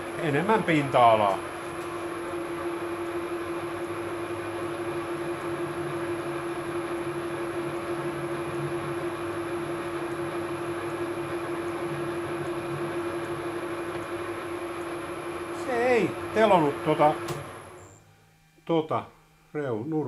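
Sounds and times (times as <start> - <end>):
lathe humming: 0.0 - 18.0.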